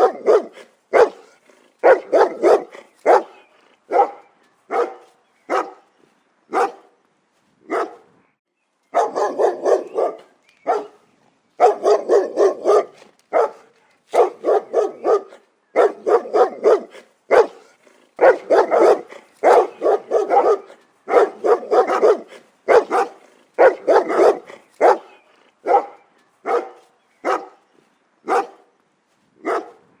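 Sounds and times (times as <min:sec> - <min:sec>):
dog barking: 0:00.0 - 0:05.9, 0:06.5 - 0:07.0, 0:07.7 - 0:08.1, 0:08.9 - 0:11.0, 0:11.6 - 0:27.6, 0:28.2 - 0:28.7, 0:29.4 - 0:29.9.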